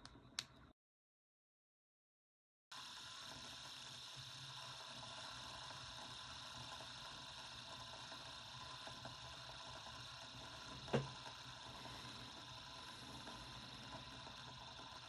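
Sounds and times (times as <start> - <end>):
fidget spinner whirring: 2.8 - 15.0.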